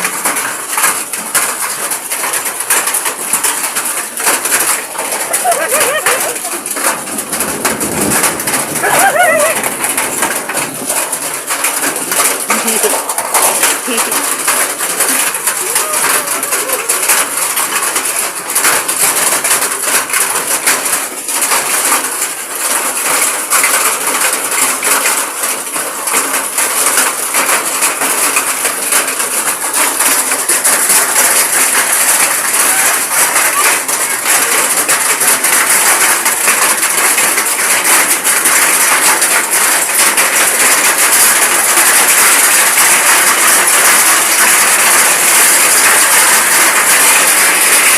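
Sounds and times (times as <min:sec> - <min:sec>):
hail striking hard surfaces: 0:00.0 - 0:47.9
heavy rain hiss: 0:00.0 - 0:47.9.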